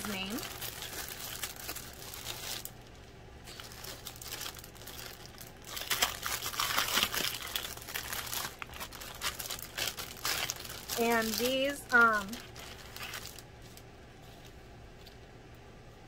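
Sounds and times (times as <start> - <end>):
packaging crinkling and rustling: 0.0 - 15.2.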